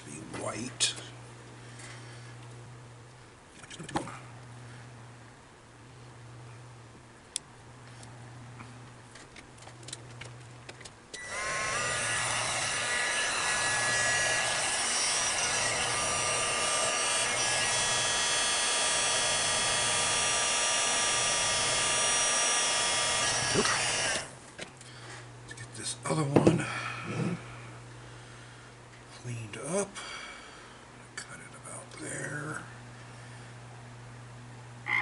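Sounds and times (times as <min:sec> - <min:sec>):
heat gun fan whine: 0:00.0 - 0:35.0.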